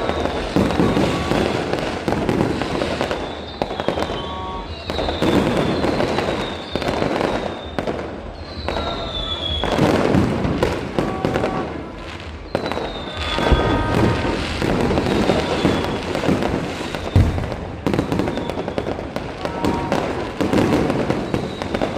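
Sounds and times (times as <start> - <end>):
firework whistles sliding down: 0.0 - 10.0, 12.4 - 19.2, 20.0 - 21.9
fireworks bangs and crackling: 0.0 - 21.9.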